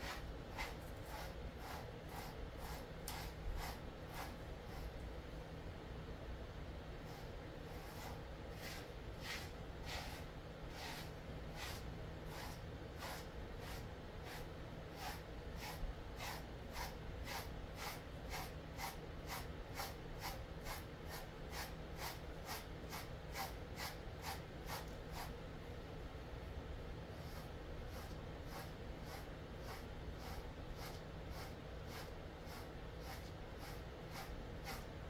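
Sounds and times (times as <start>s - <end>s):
brush swishing through dog fur: 0.0s - 5.0s, 7.0s - 25.3s, 27.1s - 34.9s.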